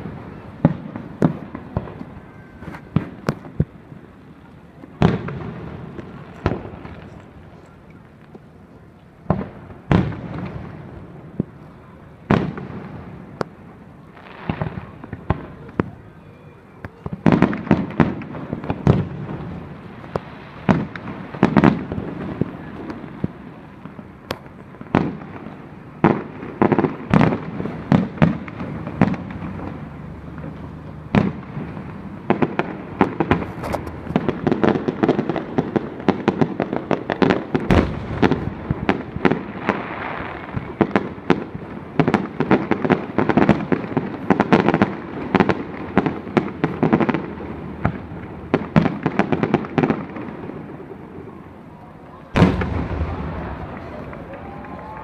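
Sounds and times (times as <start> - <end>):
aerial fireworks booms and crackles: 0.0 - 8.5, 9.2 - 55.0.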